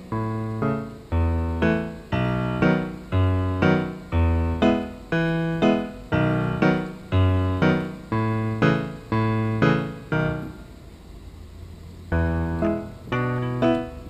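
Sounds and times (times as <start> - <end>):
piano music: 0.0 - 10.9, 12.1 - 14.0.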